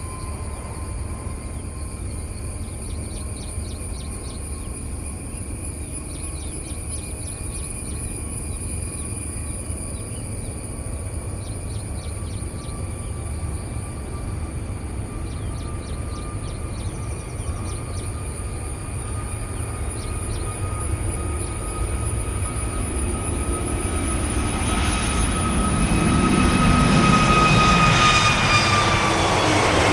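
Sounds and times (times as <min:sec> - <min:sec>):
high-pitched insect drone: 0:00.0 - 0:29.9.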